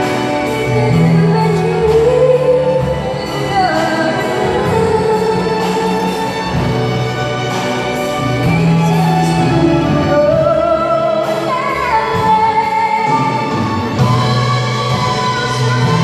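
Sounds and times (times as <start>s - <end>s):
woman singing: 0.0s - 6.6s, 8.3s - 16.0s
string orchestra: 0.0s - 16.0s.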